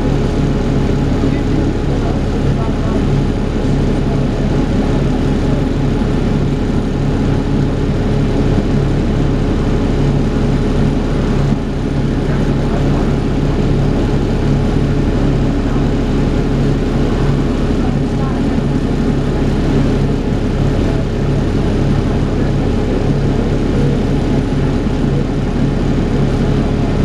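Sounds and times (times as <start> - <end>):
bus engine drone with whine: 0.0 - 27.0.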